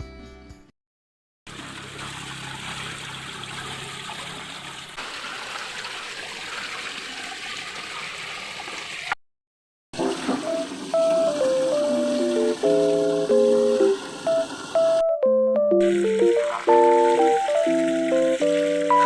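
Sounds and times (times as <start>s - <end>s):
running water rushing: 1.5s - 9.2s, 10.0s - 15.0s, 15.8s - 19.0s.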